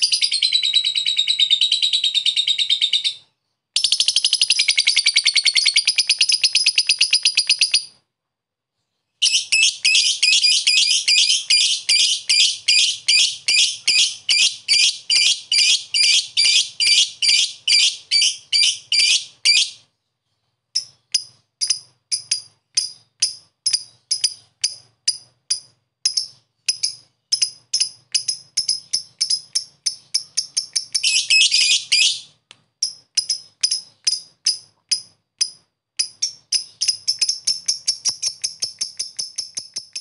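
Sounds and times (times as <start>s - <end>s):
bird chirping and trilling: 0.0s - 8.0s, 9.2s - 40.0s.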